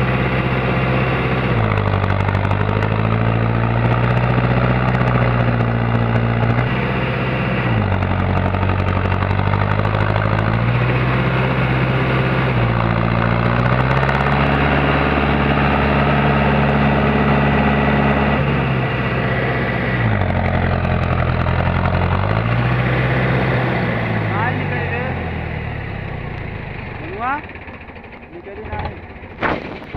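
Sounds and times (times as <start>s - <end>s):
tractor diesel engine straining: 0.0s - 29.9s.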